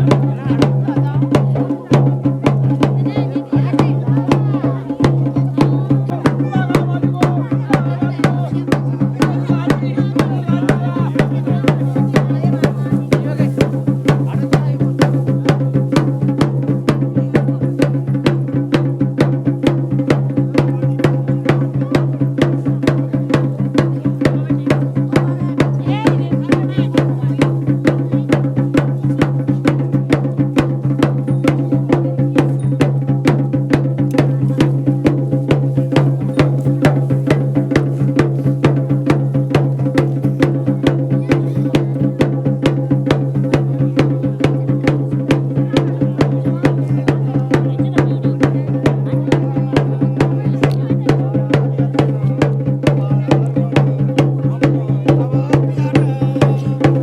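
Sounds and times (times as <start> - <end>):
fast even drumming: 0.0 - 57.0.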